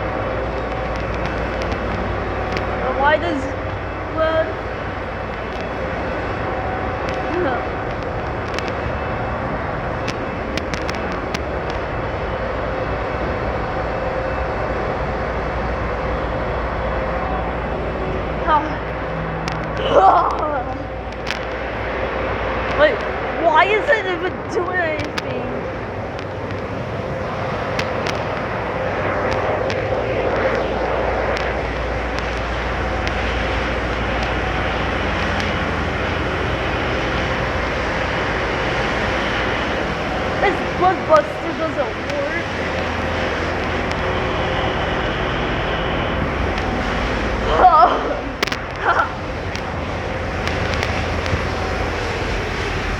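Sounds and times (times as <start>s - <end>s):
sharp clicks: 0.0s - 12.0s, 18.6s - 22.0s, 24.2s - 47.6s, 48.2s - 52.9s
car wash rushing noise: 0.0s - 52.9s
faint steady hum: 0.0s - 52.9s.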